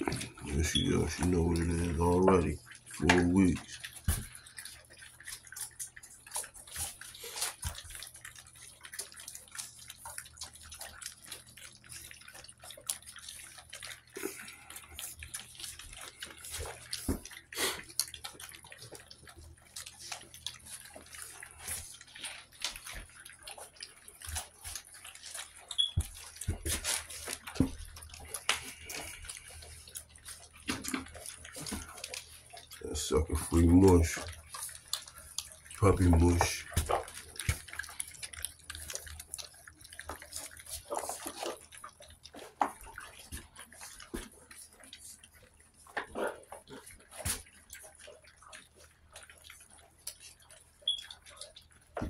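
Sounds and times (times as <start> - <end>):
puppies lapping and slurping: 0.0 - 52.0.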